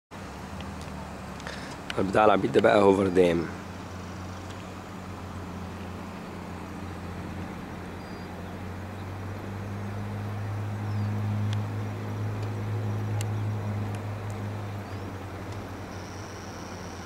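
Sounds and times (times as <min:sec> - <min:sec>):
light hiss of traffic or wind: 0:00.1 - 0:17.0
vehicle engine humming: 0:00.1 - 0:17.0.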